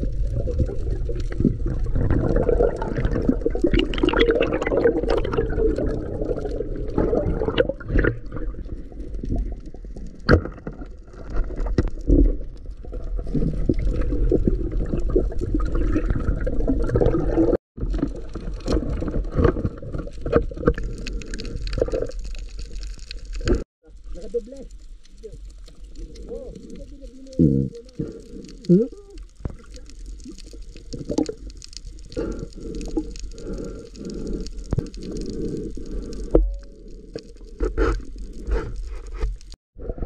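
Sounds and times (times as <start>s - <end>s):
water sloshing and gurgling: 0.0s - 40.0s.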